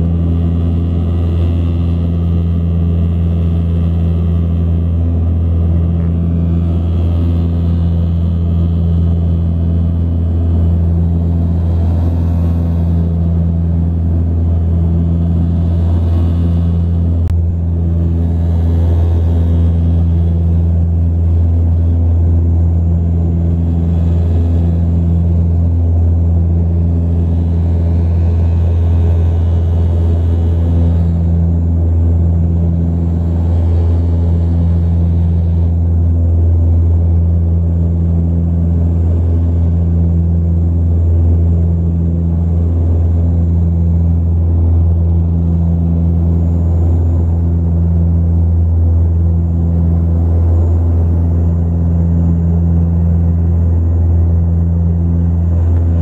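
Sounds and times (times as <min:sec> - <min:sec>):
propeller engines droning: 0:00.0 - 0:56.0.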